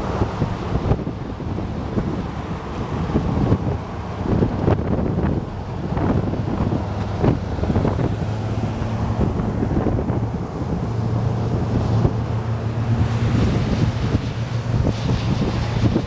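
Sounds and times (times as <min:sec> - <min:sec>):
road noise: 0:00.0 - 0:16.0
vehicle engine drone: 0:00.0 - 0:16.0
wind buffeting the microphone: 0:00.0 - 0:16.0.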